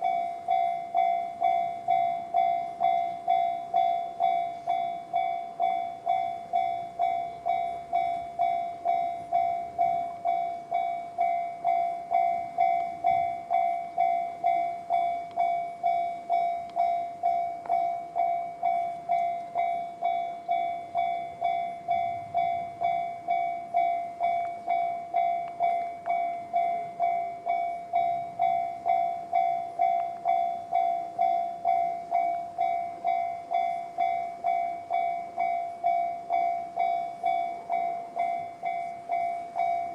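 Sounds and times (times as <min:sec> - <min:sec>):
level-crossing alarm dinging: 0:00.0 - 0:39.9.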